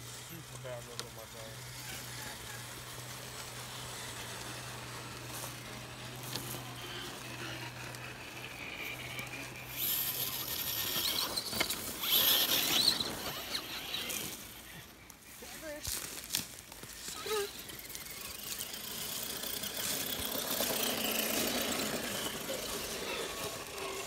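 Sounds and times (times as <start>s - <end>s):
small electric motors whining: 0.0s - 24.0s.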